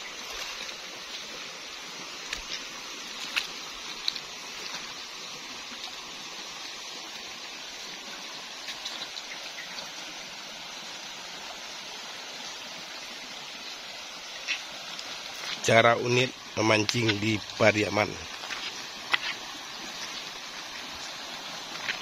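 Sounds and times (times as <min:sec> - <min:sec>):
sharp ticks and splashes: 0:00.0 - 0:22.0
stream water rushing: 0:00.0 - 0:22.0.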